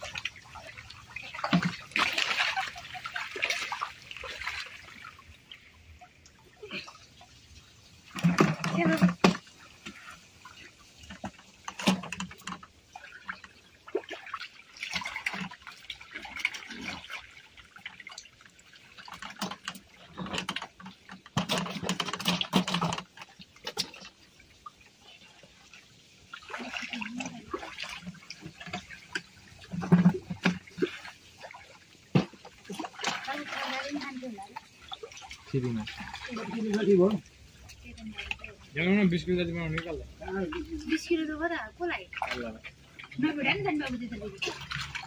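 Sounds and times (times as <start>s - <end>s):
stream water splashing: 0.0s - 45.0s.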